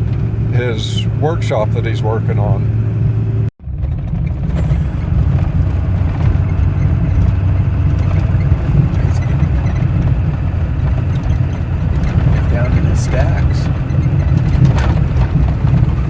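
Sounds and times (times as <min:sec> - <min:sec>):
vehicle driving on rough road: 0:00.0 - 0:16.0.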